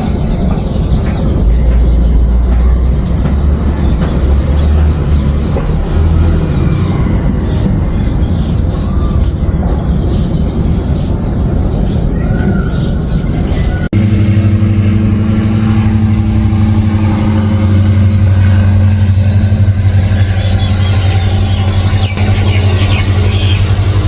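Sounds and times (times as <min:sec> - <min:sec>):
loud mechanical hum of motor: 0:00.0 - 0:09.4, 0:13.6 - 0:24.0
rumbling noise: 0:00.0 - 0:24.0.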